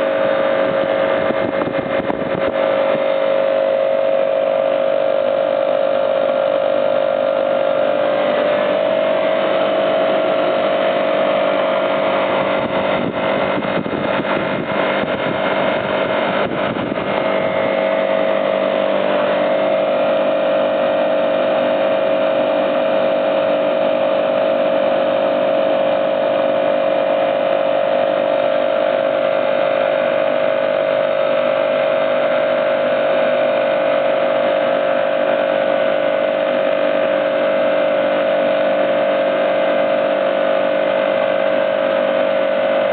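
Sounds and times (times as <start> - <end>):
air compressor humming: 0.0 - 42.9.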